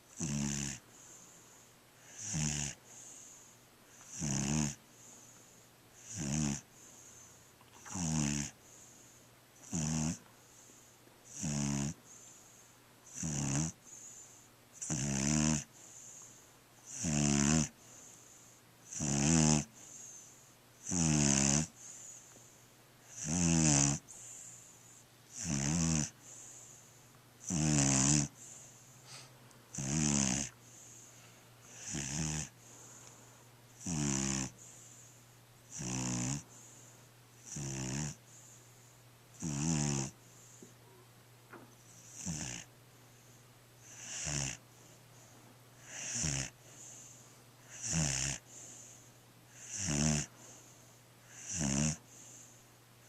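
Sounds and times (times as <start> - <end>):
small dog snoring: 0.0 - 1.4, 2.0 - 5.4, 6.0 - 22.4, 23.0 - 32.8, 33.8 - 52.6.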